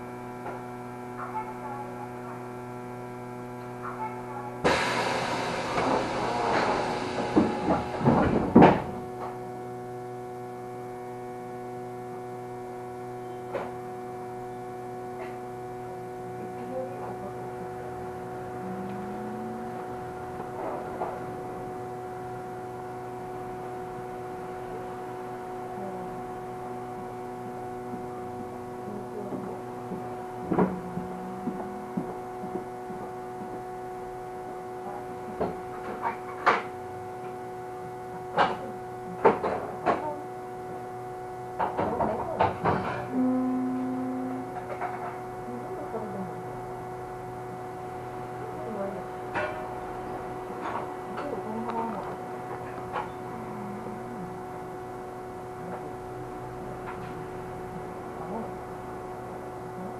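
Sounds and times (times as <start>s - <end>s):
tram electrical hum: 0.0s - 59.9s.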